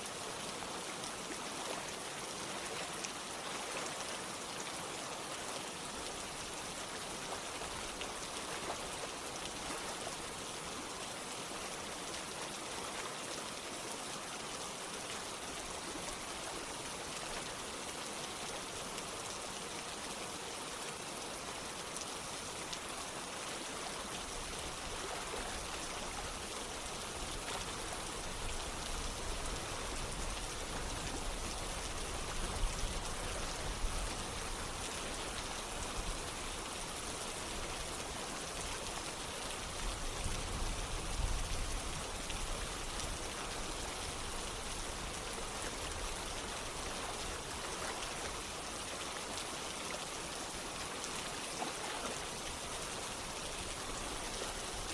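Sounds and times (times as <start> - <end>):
rain falling: 0.0 - 54.9
running water: 0.0 - 54.9.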